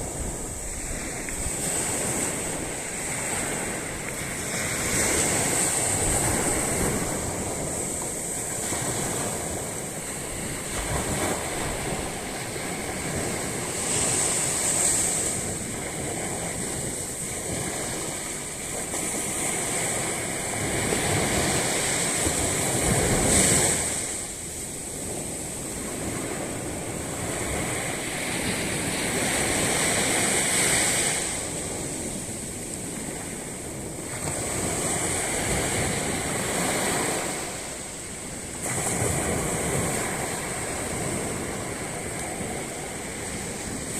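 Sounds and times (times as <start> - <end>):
waves breaking on sandy beach: 0.0 - 43.9.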